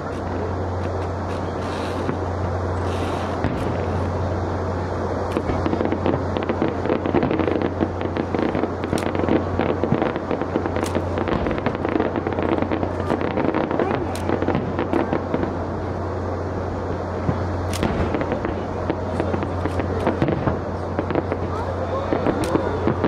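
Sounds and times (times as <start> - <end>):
fireworks crackling and popping: 0.0 - 23.0
fireworks sharp cracks: 0.0 - 23.0
steady low hum: 0.0 - 23.0.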